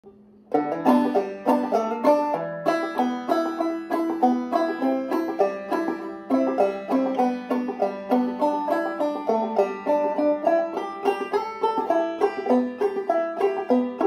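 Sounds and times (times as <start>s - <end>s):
banjo played clawhammer style: 0.1s - 14.0s.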